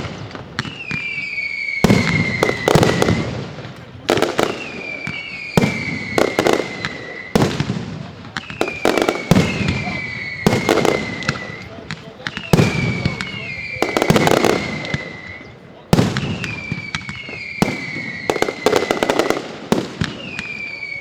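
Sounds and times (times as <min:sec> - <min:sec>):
descending firework whistles: 0:00.0 - 0:21.0.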